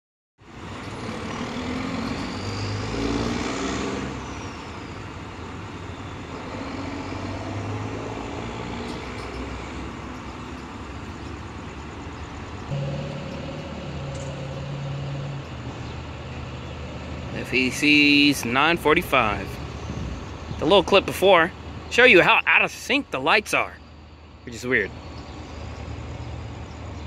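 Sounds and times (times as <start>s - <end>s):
road traffic passing: 0.4s - 27.0s.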